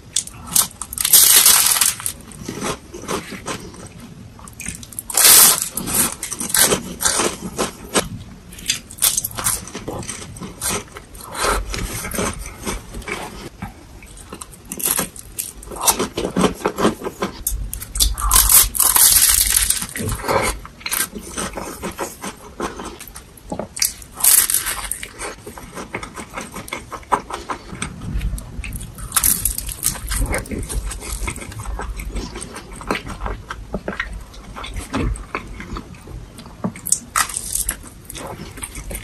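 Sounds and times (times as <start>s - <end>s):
crunching pastry: 0.0s - 39.0s
person chewing: 0.0s - 39.0s.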